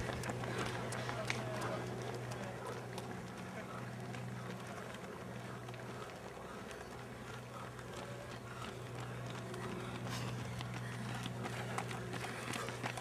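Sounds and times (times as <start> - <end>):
running footsteps on asphalt: 0.0 - 13.0
steady low hum: 0.0 - 13.0.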